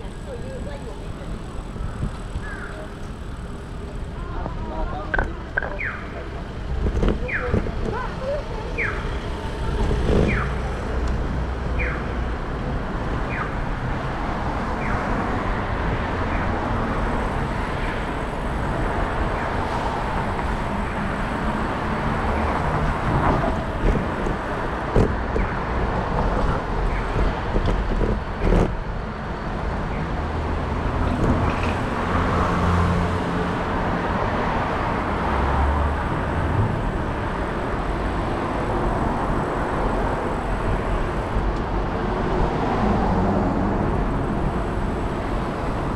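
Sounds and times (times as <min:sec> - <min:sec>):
traffic noise with low rumble: 0:00.0 - 0:45.9.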